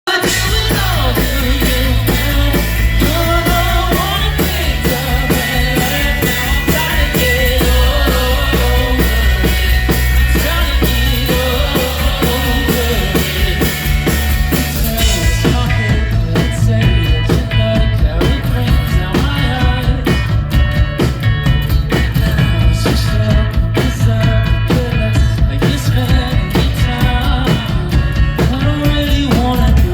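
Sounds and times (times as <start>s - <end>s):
person singing: 0.0s - 20.8s, 21.9s - 29.9s
rock band playing live: 0.0s - 29.9s.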